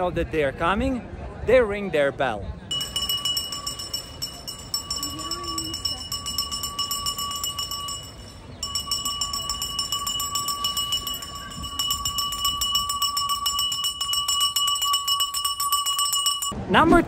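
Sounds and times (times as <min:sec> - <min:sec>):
bell ringing rapidly: 0:02.7 - 0:16.6.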